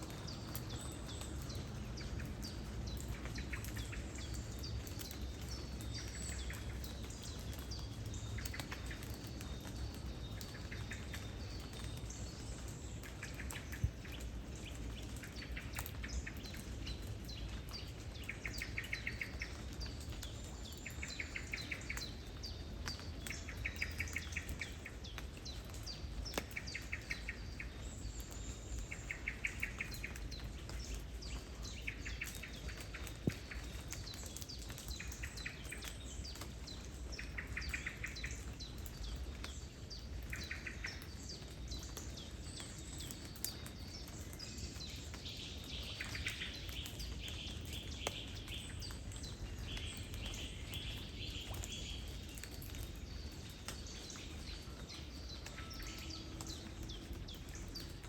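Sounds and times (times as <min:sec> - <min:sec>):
light rain pattering: 0:00.0 - 0:58.0
low rumble of wind or water: 0:00.0 - 0:58.0.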